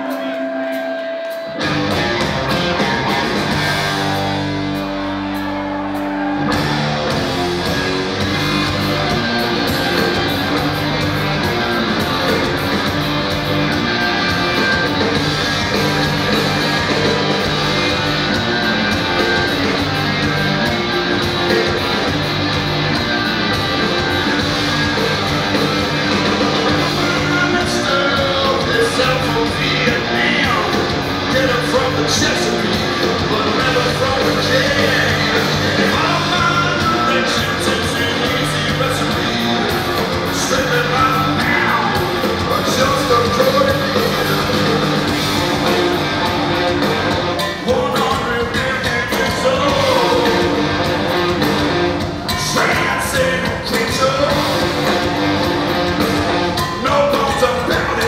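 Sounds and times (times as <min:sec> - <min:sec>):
electric guitar: 0:00.0 - 0:58.0
hard rock band playing live: 0:00.0 - 0:58.0.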